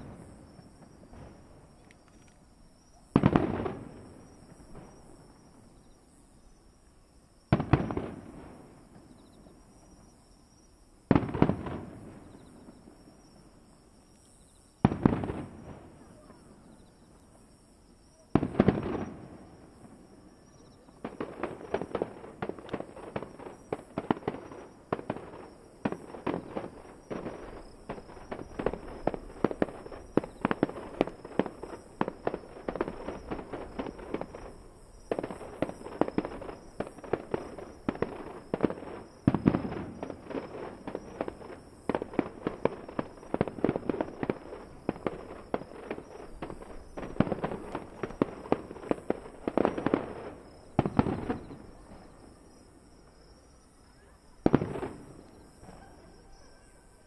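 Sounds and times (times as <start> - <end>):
heavy fireworks booms: 0.0 - 1.8, 3.1 - 5.8, 7.5 - 10.2, 11.0 - 13.7, 14.8 - 16.8, 18.3 - 52.9, 54.4 - 56.2
fireworks bursts and crackling: 0.0 - 6.2, 7.4 - 10.2, 11.0 - 14.1, 14.8 - 53.4, 54.1 - 56.5.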